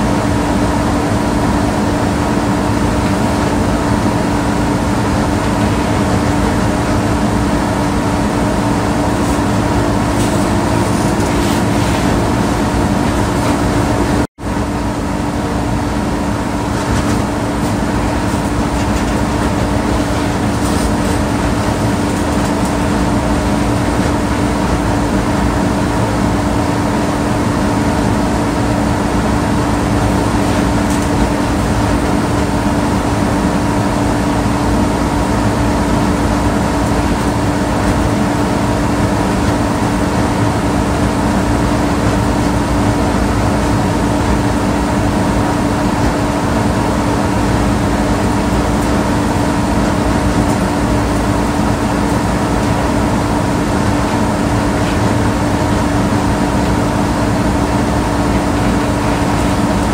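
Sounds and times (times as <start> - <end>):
air conditioner blowing air: 0.0 - 59.9.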